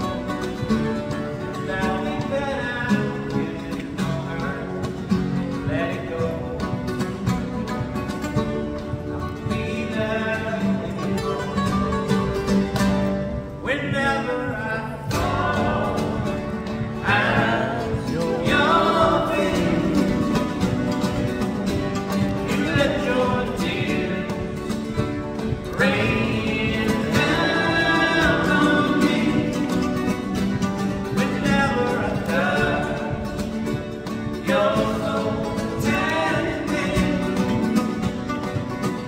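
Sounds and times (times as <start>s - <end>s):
nylon-string guitars playing: 0.0s - 39.0s
man singing: 1.3s - 7.1s, 9.2s - 12.0s, 13.6s - 38.3s.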